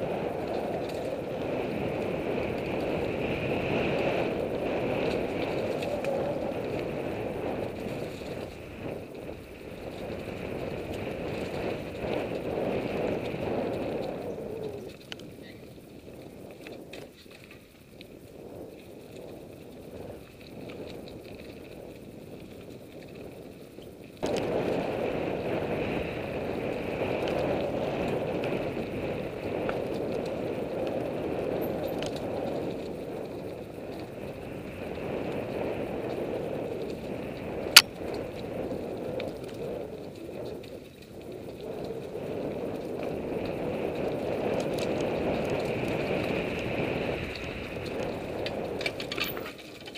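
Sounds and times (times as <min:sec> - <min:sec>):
bike tyres rolling on dirt: 0:00.0 - 0:49.9.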